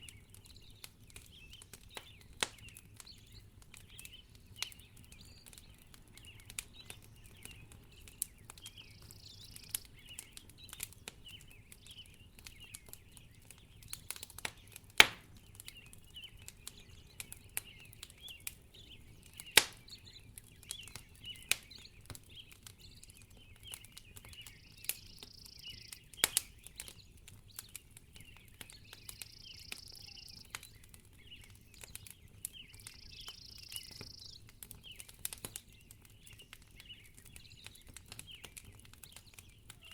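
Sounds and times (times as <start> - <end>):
wood fire crackling: 0.0 - 39.9
loud fire pops: 1.3 - 20.0, 23.6 - 39.4.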